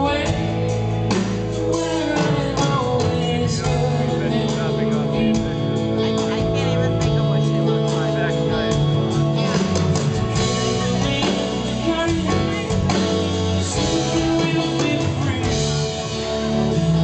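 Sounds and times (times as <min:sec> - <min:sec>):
electric guitar: 0:00.0 - 0:17.0
live soft rock band: 0:00.0 - 0:17.0
person singing: 0:00.0 - 0:17.0.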